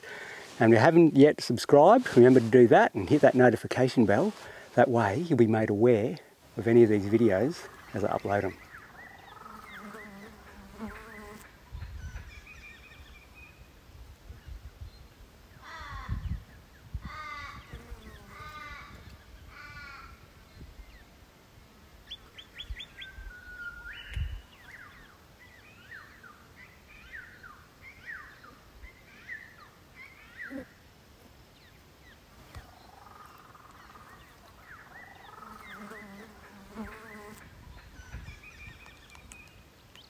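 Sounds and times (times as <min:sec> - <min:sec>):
wild birds chirping: 0:00.0 - 0:13.8, 0:14.4 - 0:21.2, 0:22.0 - 0:40.0.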